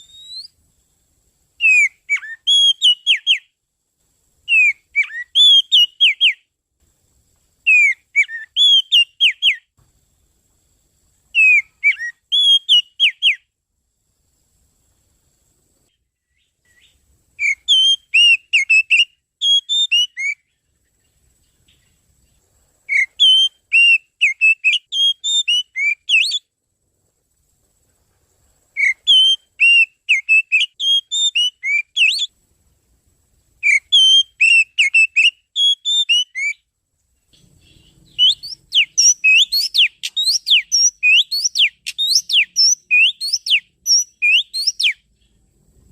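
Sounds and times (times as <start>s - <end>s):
songbird whistled song: 0.0s - 3.6s, 4.4s - 6.5s, 7.6s - 9.9s, 11.2s - 13.6s, 15.9s - 26.5s, 28.7s - 32.4s, 33.6s - 45.9s.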